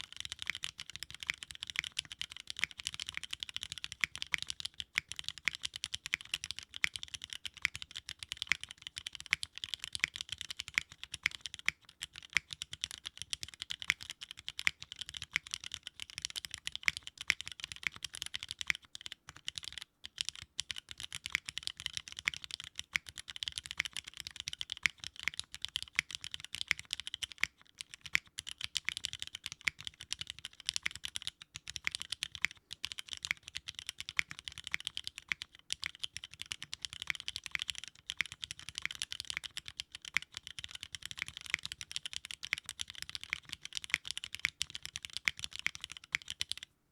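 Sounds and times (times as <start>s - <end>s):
mechanical keyboard typing: 0.0s - 46.7s.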